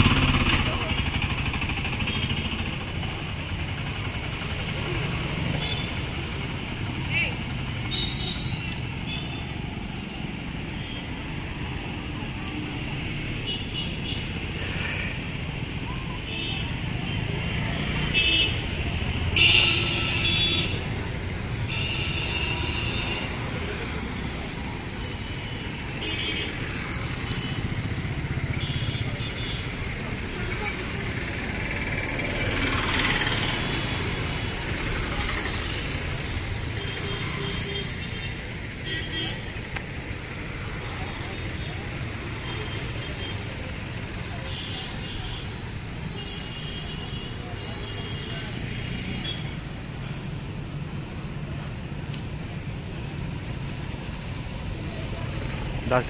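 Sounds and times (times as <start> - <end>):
passing traffic rumble: 0.0 - 56.0.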